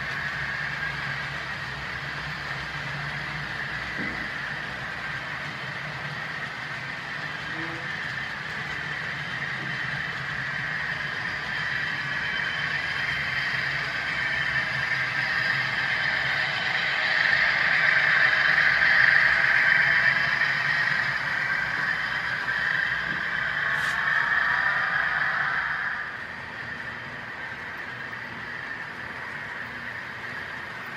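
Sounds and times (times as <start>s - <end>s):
model train wheels rolling on rail: 0.0s - 30.9s.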